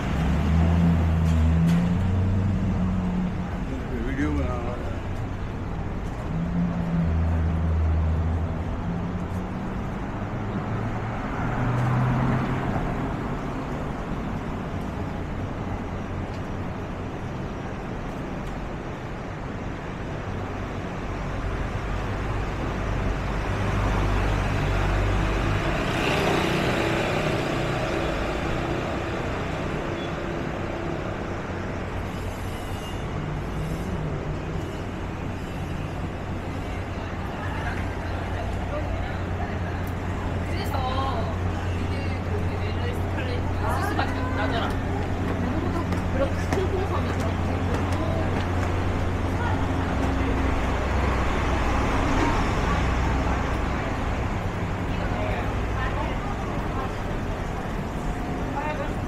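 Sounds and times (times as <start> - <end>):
steady road noise: 0.0 - 59.0
vehicles passing: 0.0 - 59.0.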